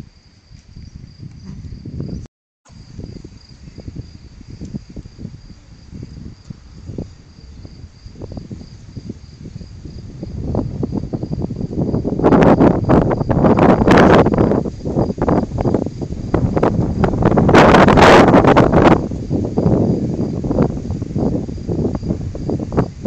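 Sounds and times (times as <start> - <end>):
crickets chirping: 0.0 - 23.0
wind buffeting microphone: 0.0 - 23.0.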